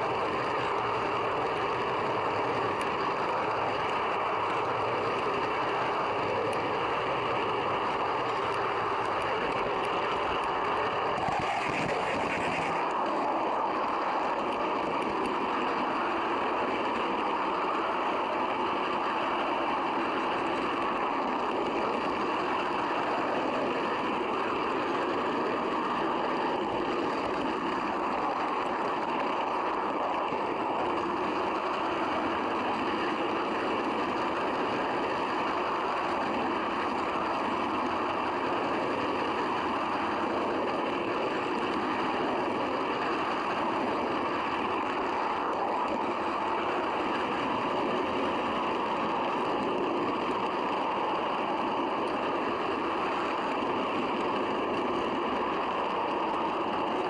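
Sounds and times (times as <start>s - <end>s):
model train running on track: 0.0s - 57.0s.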